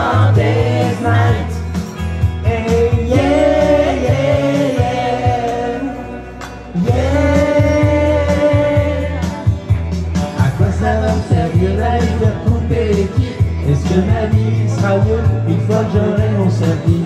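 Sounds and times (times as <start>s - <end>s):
backing track music: 0.0s - 17.0s
person singing into microphone: 2.3s - 9.8s, 10.4s - 17.0s.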